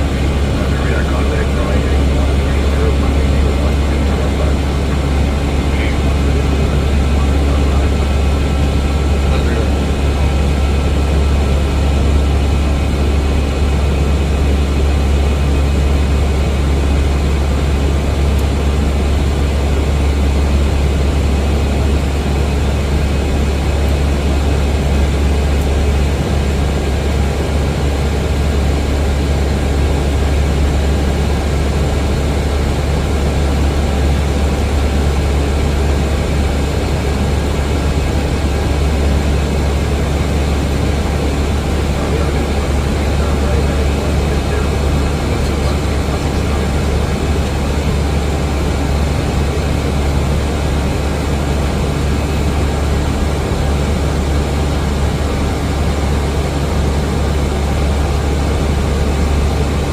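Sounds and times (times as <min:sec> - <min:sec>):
aircraft cabin engine rumble: 0:00.0 - 0:59.9.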